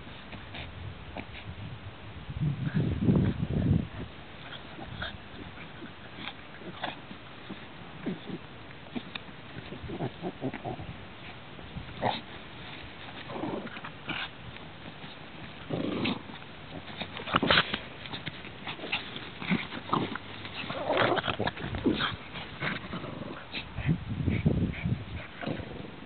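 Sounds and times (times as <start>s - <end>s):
dogs playing: 0.0s - 1.6s, 2.8s - 26.0s.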